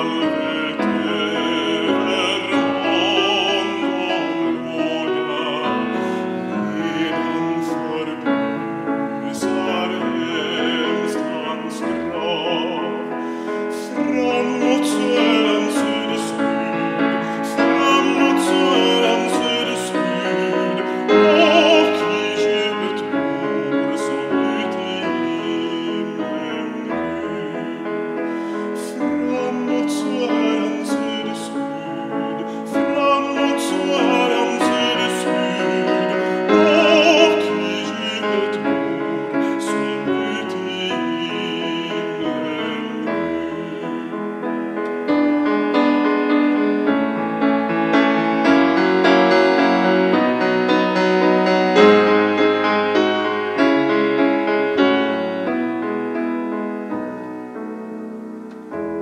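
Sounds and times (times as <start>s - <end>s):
man singing with vibrato: 0.0s - 57.6s
grand piano: 0.0s - 59.0s.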